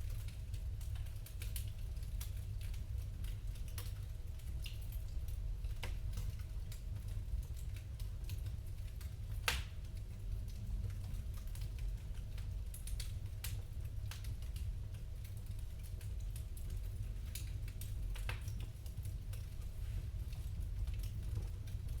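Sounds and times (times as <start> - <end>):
low fire rumble: 0.0 - 22.0
wood fire crackling and popping: 0.0 - 22.0.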